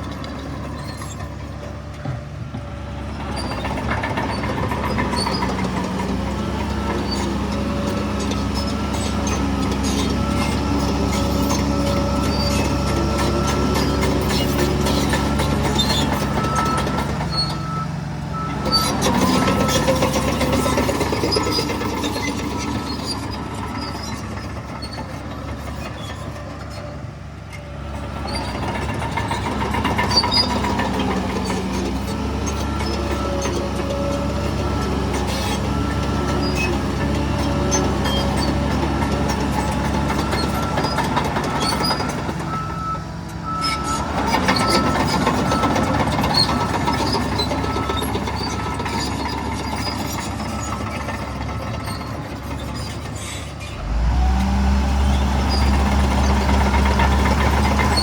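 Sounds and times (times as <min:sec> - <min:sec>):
heavy diesel engine working: 0:00.0 - 0:58.0.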